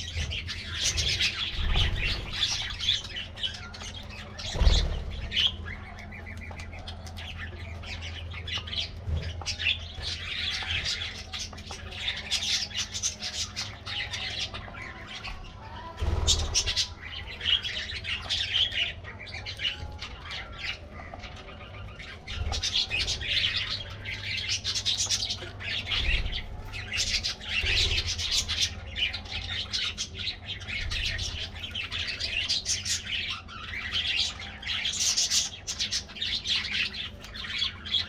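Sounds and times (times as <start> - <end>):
budgerigars chattering and squawking: 0.0 - 38.0.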